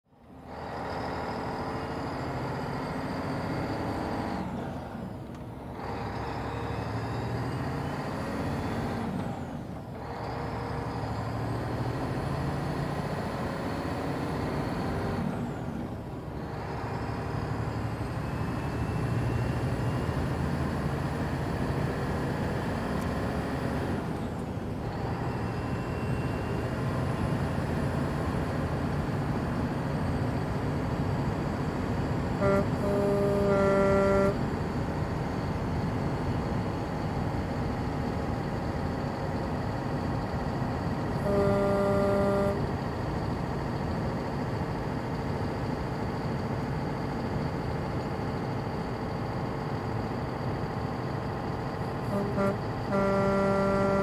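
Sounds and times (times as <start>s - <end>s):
heavy truck engines: 0.0s - 54.0s.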